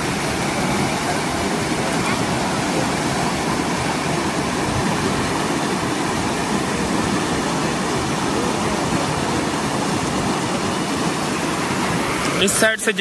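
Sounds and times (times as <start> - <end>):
water rushing through breach: 0.0 - 13.0.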